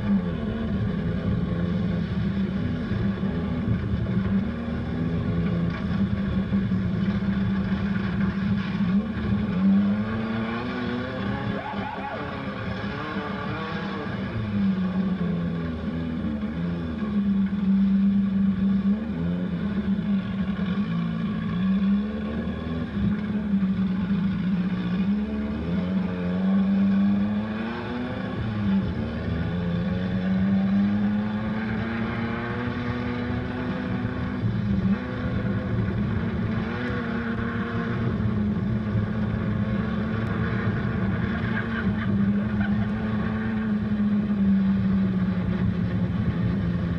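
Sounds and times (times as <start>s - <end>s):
dune buggy engine revving: 0.0s - 46.9s.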